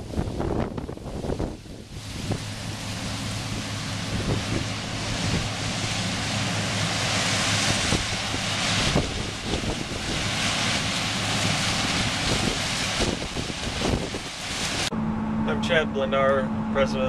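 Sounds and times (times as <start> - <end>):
rushing noise of cutting corn: 0.0 - 14.9
wind buffeting microphone: 0.0 - 15.0
combine harvester engine hum: 0.0 - 17.0.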